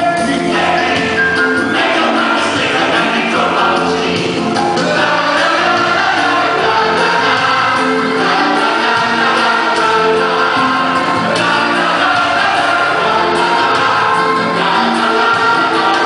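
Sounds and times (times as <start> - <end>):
chorus singing with instruments: 0.0 - 16.0.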